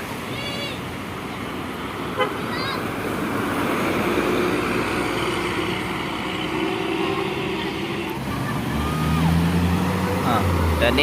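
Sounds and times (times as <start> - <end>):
vehicle engines and tyres on road: 0.0 - 11.0.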